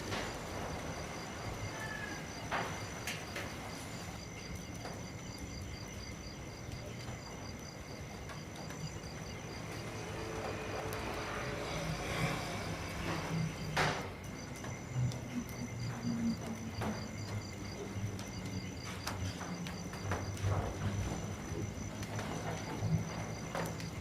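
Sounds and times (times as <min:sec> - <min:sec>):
insect chirping: 0:00.0 - 0:24.0
rain falling on leaves: 0:00.0 - 0:24.0.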